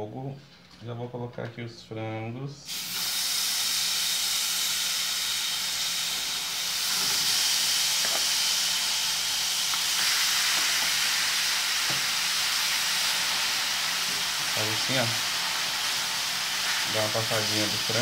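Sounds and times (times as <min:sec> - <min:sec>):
chicken sizzling in a frying pan: 0:02.7 - 0:18.0.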